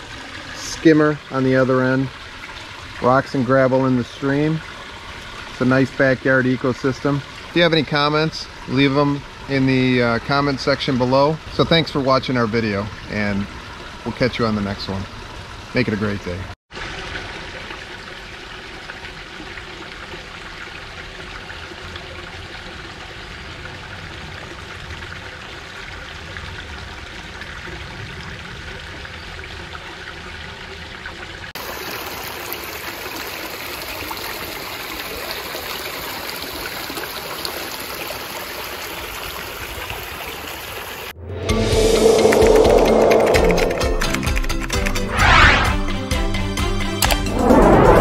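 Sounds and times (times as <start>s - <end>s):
water trickling over rocks: 0.0s - 15.9s, 16.7s - 41.1s
small waterfall splashing into pond: 0.0s - 41.1s.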